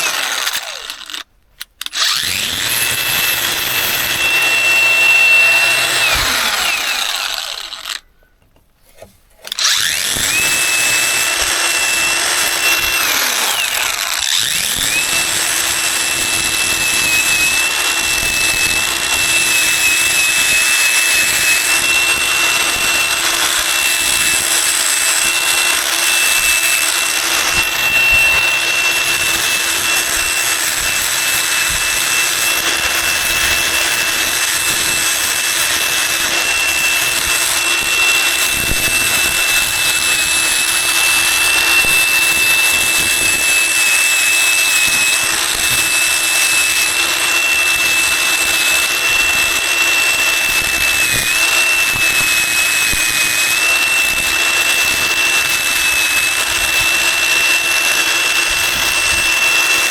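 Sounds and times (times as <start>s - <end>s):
power tool high whine: 0.0s - 8.0s, 9.4s - 59.9s.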